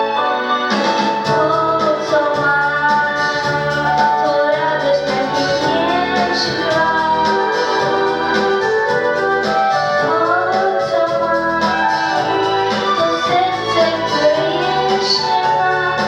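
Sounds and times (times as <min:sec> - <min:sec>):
instrumental accompaniment: 0:00.0 - 0:16.0
young woman singing: 0:01.2 - 0:16.0.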